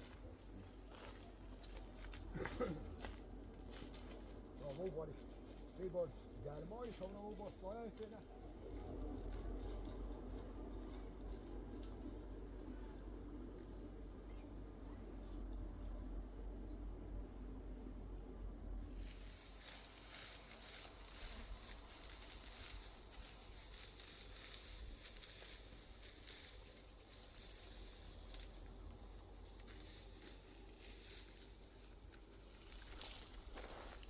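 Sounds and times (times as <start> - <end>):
dry crackling and rustling hiss: 0.0 - 34.0.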